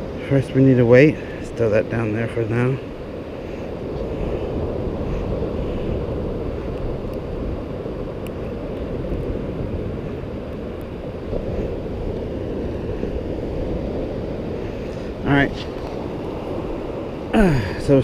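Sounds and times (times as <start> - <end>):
ocean surf on beach: 0.0 - 18.0
wind on microphone: 0.0 - 18.0.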